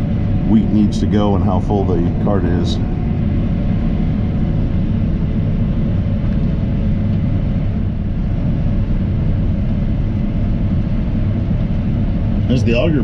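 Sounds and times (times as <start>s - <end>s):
combine harvester drone: 0.0s - 13.0s.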